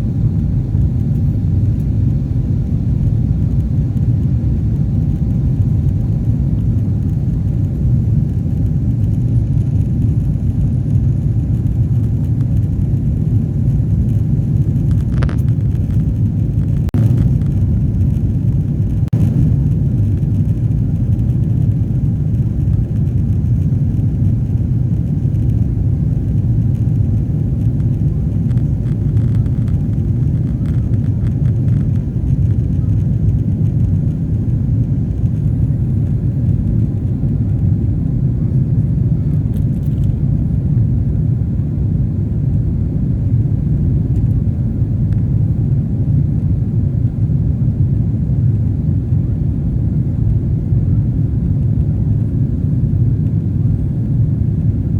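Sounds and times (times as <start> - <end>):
jet engines low rumble: 0.0 - 54.9.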